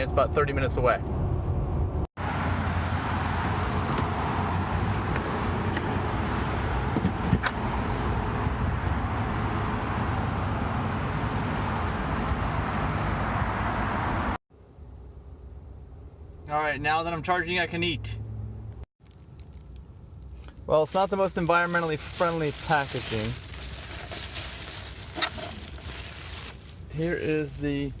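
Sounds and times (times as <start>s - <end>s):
road and tyre noise in car: 0.0s - 28.0s.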